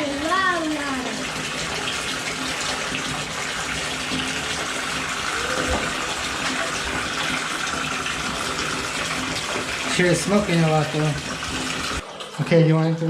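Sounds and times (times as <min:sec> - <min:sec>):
tap water filling bathtub: 0:00.0 - 0:13.0.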